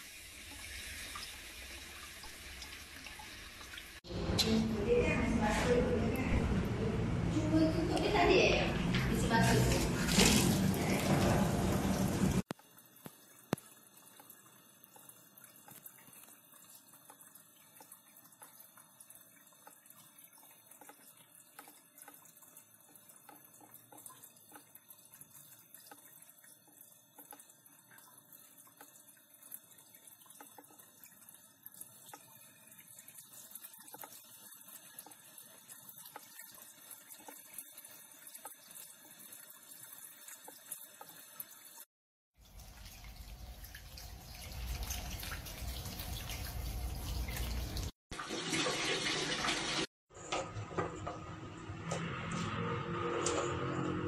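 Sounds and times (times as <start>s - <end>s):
water trickling down sink drain: 0.0s - 4.1s, 9.1s - 49.9s.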